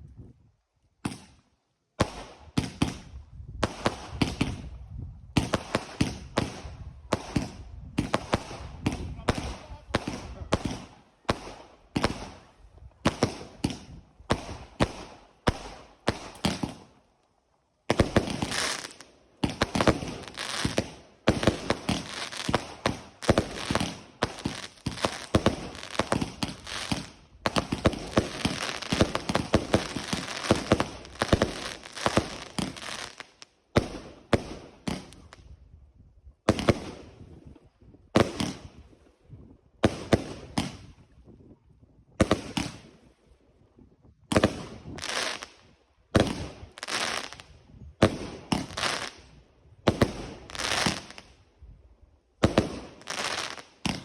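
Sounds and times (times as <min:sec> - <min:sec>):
fireworks bangs and crackling: 0:01.0 - 0:01.4, 0:02.0 - 0:17.0, 0:17.8 - 0:35.6, 0:36.4 - 0:38.9, 0:39.8 - 0:41.2, 0:42.2 - 0:43.0, 0:44.3 - 0:51.4, 0:52.4 - 0:54.0.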